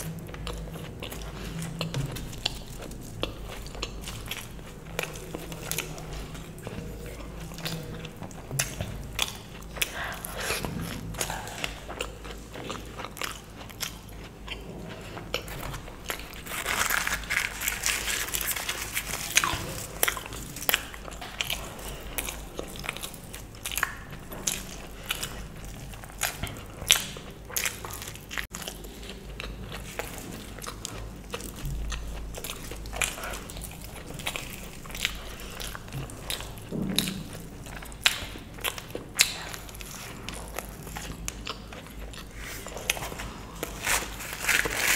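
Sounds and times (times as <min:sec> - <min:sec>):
wet chewing and biting: 0:00.0 - 0:44.9.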